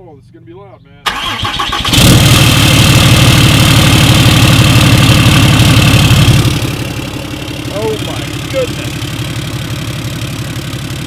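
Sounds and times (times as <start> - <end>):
loud diesel engine idling: 1.1 - 11.0.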